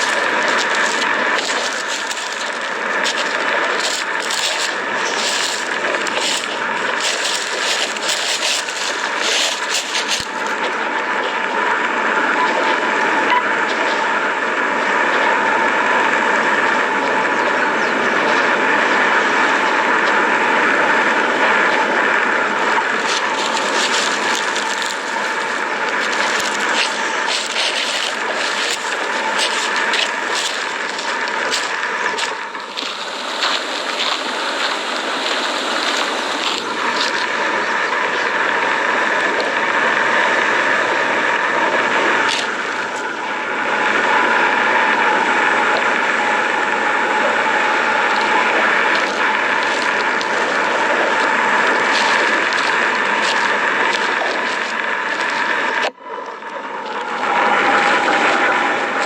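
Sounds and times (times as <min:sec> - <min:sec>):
rushing drone with held tones: 0:00.0 - 0:59.0.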